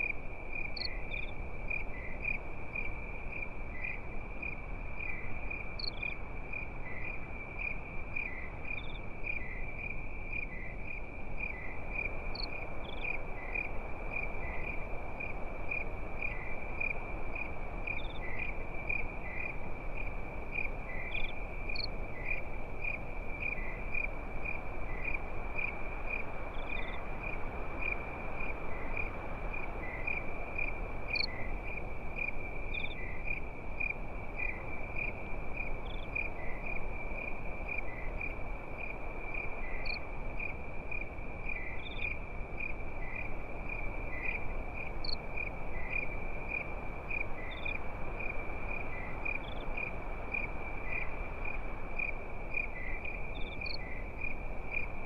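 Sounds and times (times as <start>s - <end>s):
crickets trilling: 0.0s - 55.0s
higher cricket chirps: 0.0s - 55.0s
low steady hiss: 0.0s - 55.0s.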